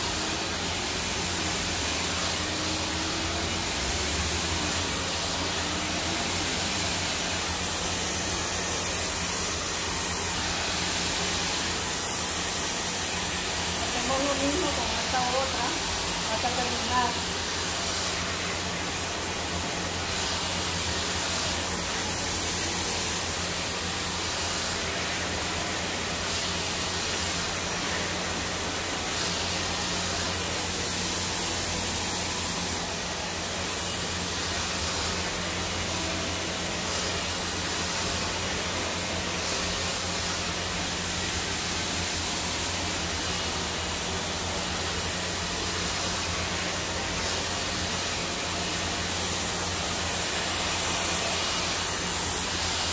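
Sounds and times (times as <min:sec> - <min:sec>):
hair dryer running: 0:00.0 - 0:52.9.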